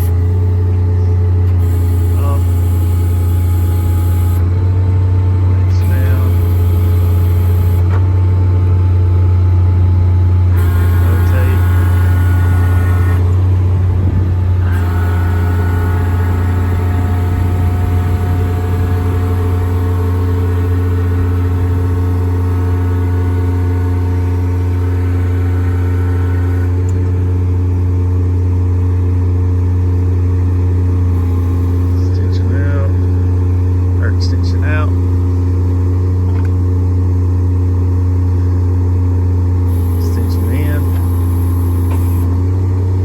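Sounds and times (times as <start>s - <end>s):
engine-driven generator droning: 0.0s - 43.0s
hydraulic whine: 0.0s - 43.0s.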